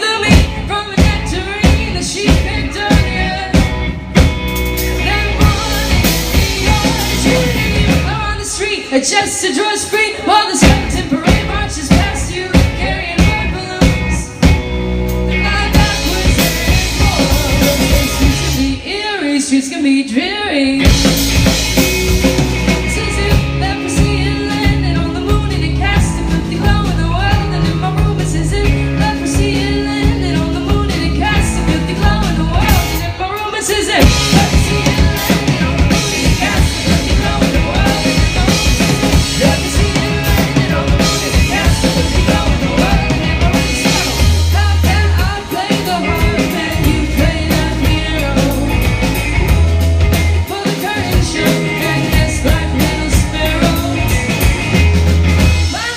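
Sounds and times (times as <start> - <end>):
person singing: 0.0 - 14.6, 15.2 - 55.9
live rock band playing: 0.0 - 55.9.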